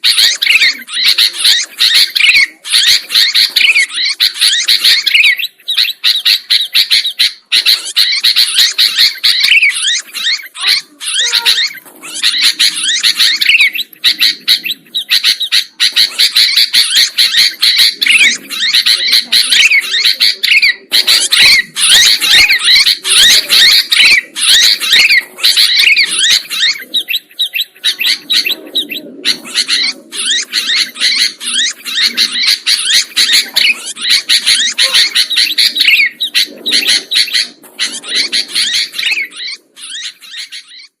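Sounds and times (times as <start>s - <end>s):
bird singing chirps and warbles: 0.0s - 41.0s.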